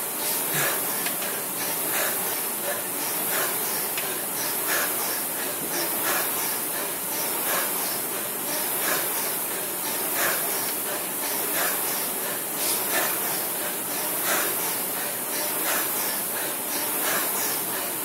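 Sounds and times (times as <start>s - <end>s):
rowing machine fan whooshing: 0.0s - 18.0s.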